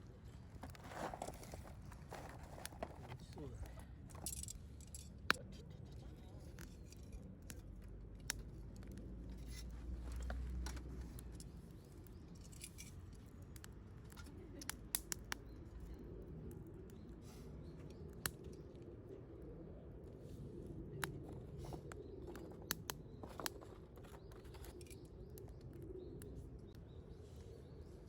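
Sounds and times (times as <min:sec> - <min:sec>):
campfire crackling: 0:00.1 - 0:28.0.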